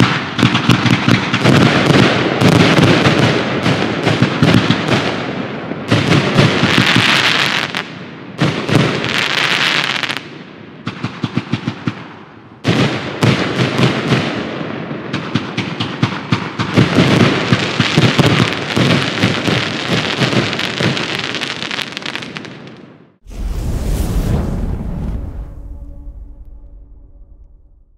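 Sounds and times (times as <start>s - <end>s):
fireworks bursts with crackling: 0.0s - 23.0s.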